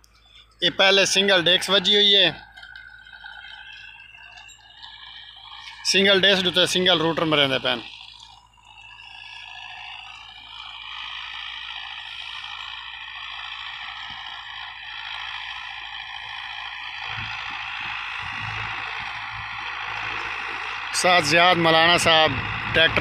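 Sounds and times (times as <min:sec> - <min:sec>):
distant tractor running: 0:00.0 - 0:23.0.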